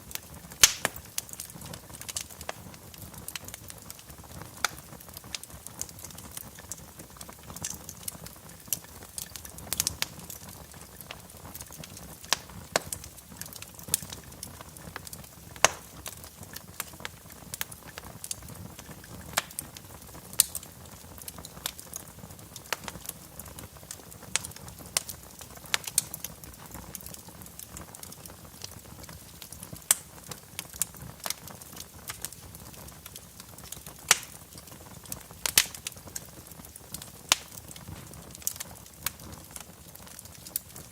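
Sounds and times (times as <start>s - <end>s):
low hiss of flames: 0.0s - 40.9s
wood fire crackling: 0.0s - 40.9s.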